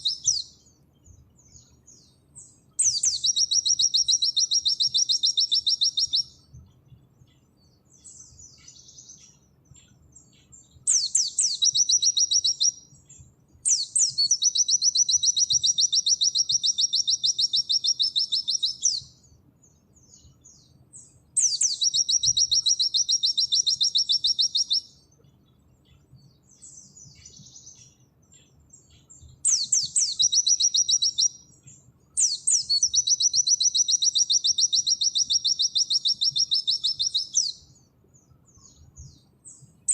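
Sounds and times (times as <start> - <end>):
bird high trilling song: 0.0 - 39.9
soft bird chirps: 0.0 - 39.9.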